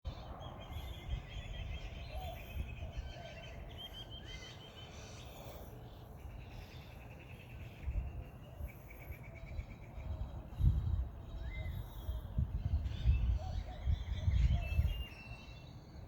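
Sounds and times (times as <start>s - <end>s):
songbirds chirping and trilling: 0.1s - 16.0s.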